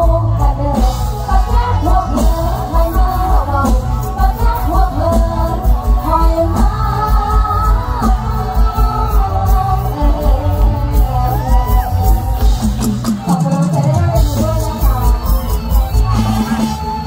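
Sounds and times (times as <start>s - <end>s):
woman singing: 0.0s - 16.6s
bass drum beat: 0.0s - 17.0s
live band playing: 0.0s - 17.0s.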